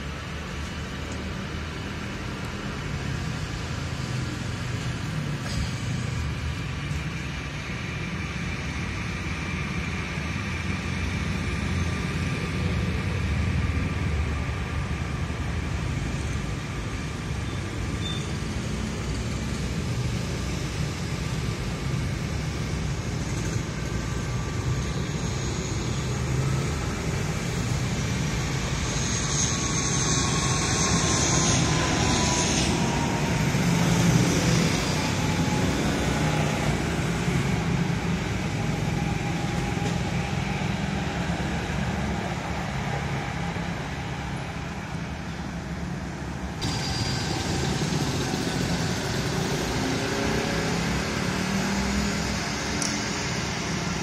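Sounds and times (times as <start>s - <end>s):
aircraft engines rumbling: 0.0s - 54.0s
jet engine whine: 0.0s - 54.0s.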